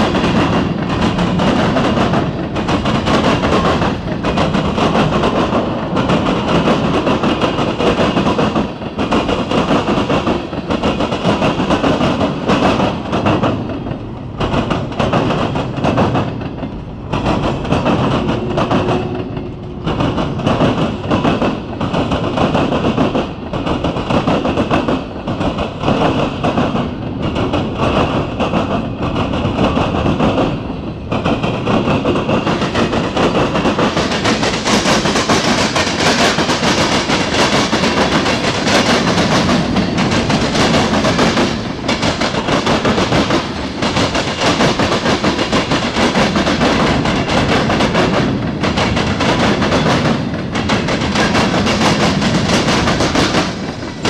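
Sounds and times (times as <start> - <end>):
freight train rolling by: 0.0 - 54.0
train wheel knocks: 0.0 - 54.0.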